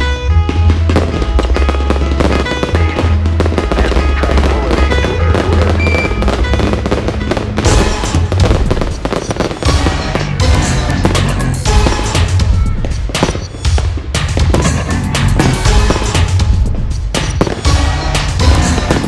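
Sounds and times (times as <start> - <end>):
fireworks bursting and crackling: 0.0 - 19.0
loud music with heavy bass: 0.0 - 19.0.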